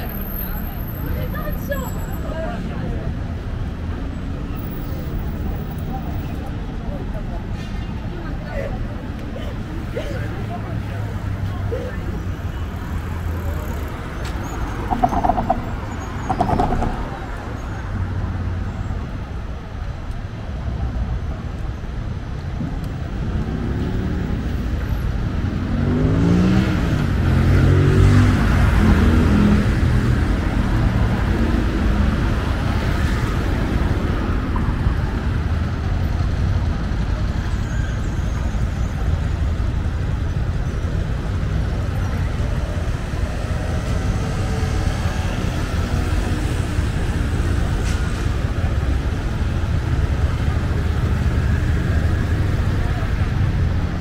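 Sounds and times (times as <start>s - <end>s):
road vehicles running: 0.0s - 54.0s.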